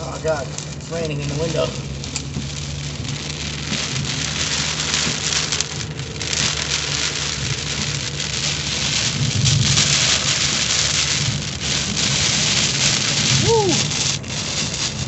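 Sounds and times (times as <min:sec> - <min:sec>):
car driving drone: 0:00.0 - 0:15.0
heavy rain on car roof: 0:00.0 - 0:15.0.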